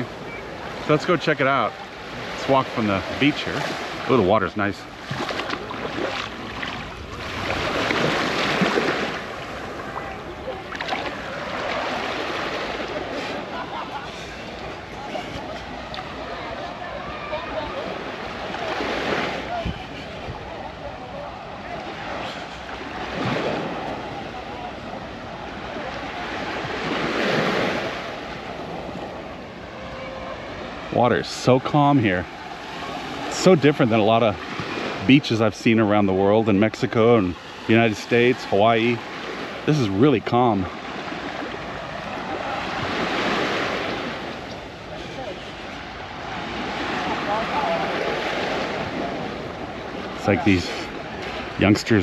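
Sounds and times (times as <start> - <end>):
waves washing onto sand: 0.0 - 52.0.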